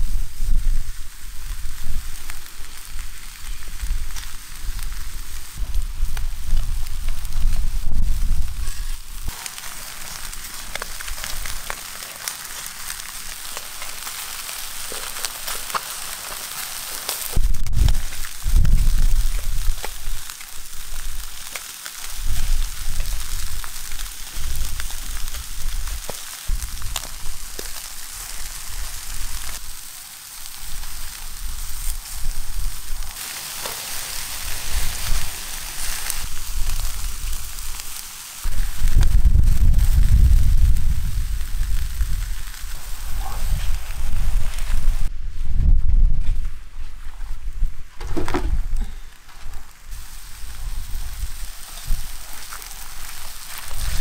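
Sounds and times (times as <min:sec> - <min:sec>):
chickens sizzling over charcoal: 0:00.0 - 0:45.8, 0:46.7 - 0:54.0
charcoal crackles and pops: 0:00.0 - 0:54.0.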